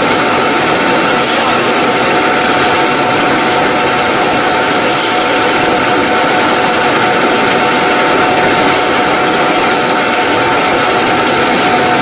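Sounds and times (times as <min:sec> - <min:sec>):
milling machine droning: 0:00.0 - 0:12.0.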